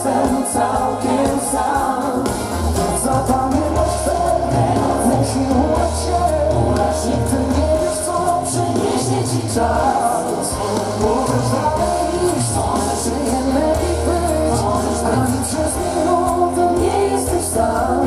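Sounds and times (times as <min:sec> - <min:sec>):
live pop band with singers: 0:00.0 - 0:18.0.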